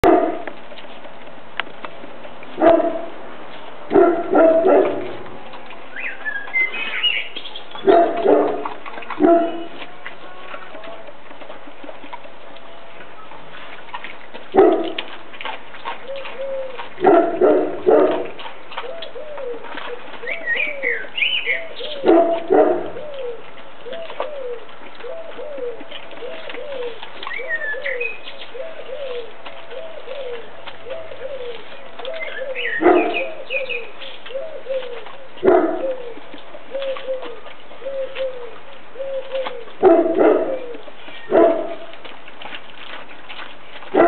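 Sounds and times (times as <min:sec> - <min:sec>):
small birds chirping: 0:03.5 - 0:13.4, 0:15.7 - 0:42.0
pigeon cooing: 0:03.8 - 0:44.0
dog tearing and chewing meat: 0:03.9 - 0:44.0.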